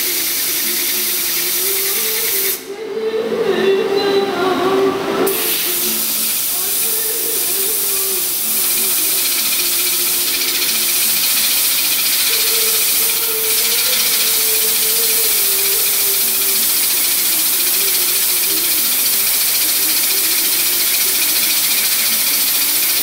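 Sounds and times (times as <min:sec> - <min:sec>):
air blow gun hissing: 0:00.0 - 0:02.7, 0:05.3 - 0:23.0
lathe turning tone: 0:00.0 - 0:04.3, 0:05.0 - 0:23.0.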